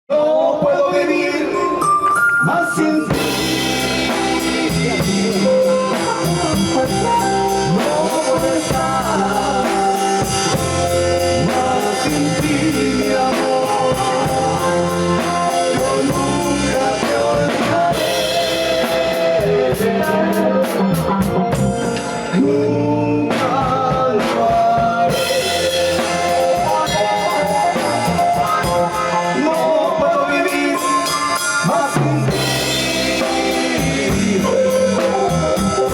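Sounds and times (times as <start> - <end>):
band music: 0.2 - 35.9.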